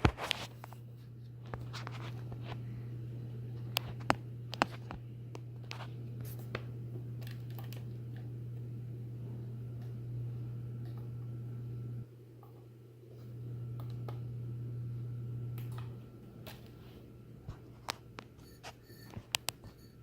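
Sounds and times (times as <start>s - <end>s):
ceiling fan motor hum: 0.0s - 20.0s.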